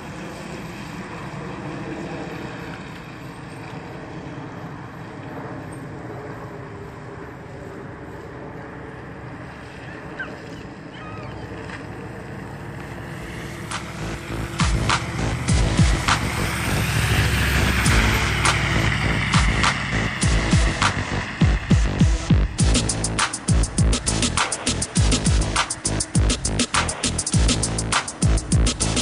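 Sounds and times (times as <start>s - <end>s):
car engine running low: 0.0s - 29.0s.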